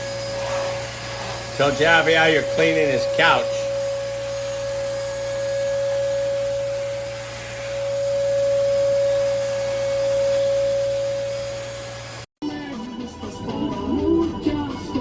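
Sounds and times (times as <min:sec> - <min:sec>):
vacuum cleaner motor whining: 0:00.0 - 0:12.3.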